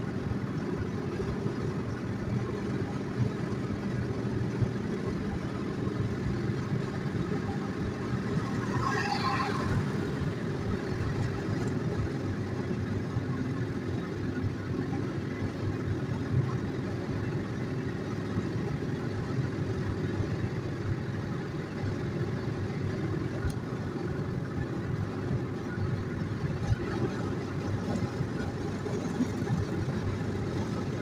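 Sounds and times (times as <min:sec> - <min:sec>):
car road and engine rumble: 0:00.0 - 0:31.0.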